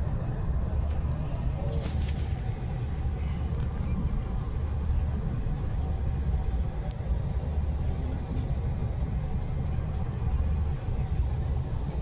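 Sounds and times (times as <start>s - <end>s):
train rumbling inside car: 0.0s - 12.0s.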